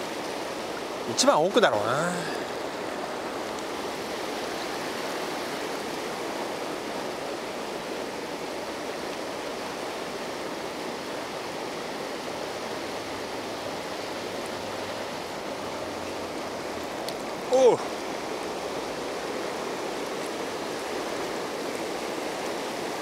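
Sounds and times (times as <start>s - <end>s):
river rushing over stones: 0.0s - 23.0s.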